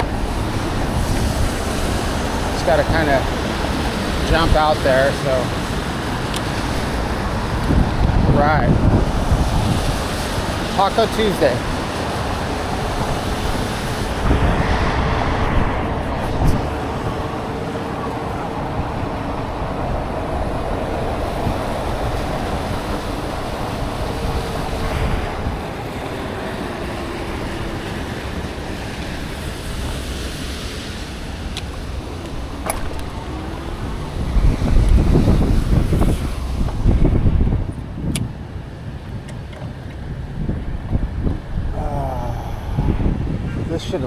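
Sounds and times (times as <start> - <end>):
tyres hissing on wet road: 0.0 - 44.0
wind on microphone: 0.0 - 44.0.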